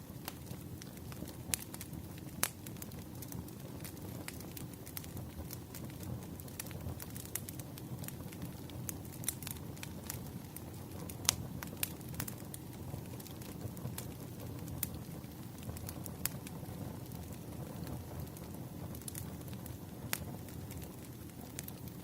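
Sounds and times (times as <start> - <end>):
low rumble of flames: 0.0 - 22.0
wood crackling and popping: 0.0 - 22.0.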